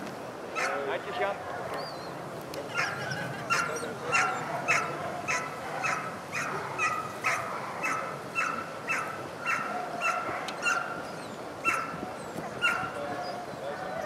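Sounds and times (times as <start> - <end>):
dog barking: 0.6 - 1.8, 2.7 - 11.0, 11.6 - 12.0, 12.6 - 14.0.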